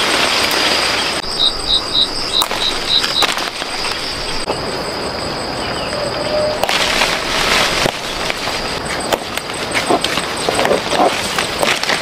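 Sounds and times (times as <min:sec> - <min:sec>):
leaves and branches rustling: 0:00.0 - 0:12.0
steady high whine: 0:00.2 - 0:12.0.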